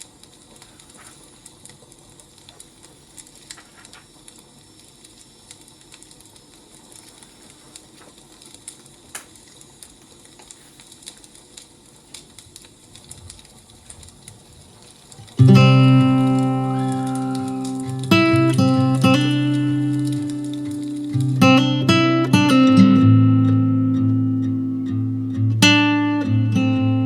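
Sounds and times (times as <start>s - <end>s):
firewood crackling and popping: 0.0s - 27.0s
low rustle of fire: 0.0s - 27.0s.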